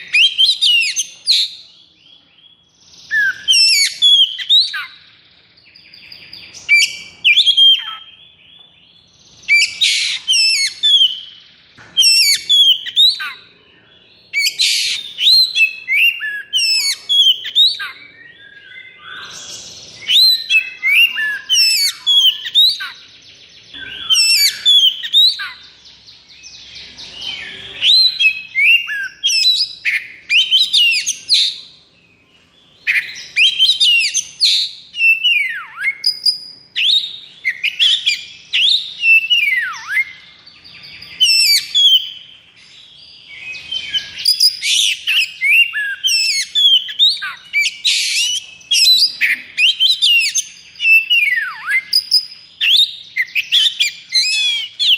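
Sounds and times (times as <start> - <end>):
bird singing whistles and trills: 0.0 - 54.9.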